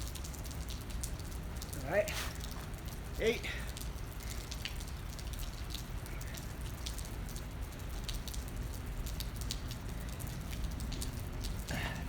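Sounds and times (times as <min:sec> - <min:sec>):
rain falling: 0:00.0 - 0:12.0
raindrops ticking sharply: 0:00.0 - 0:12.0.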